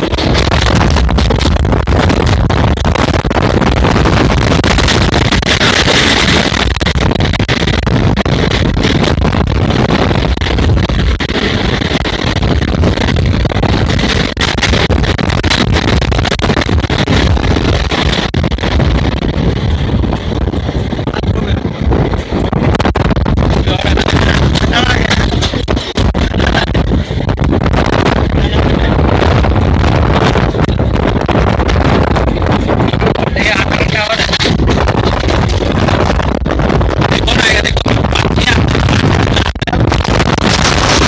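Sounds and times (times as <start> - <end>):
train rumbling: 0.0 - 41.0
wind rushing over microphone: 0.0 - 41.0.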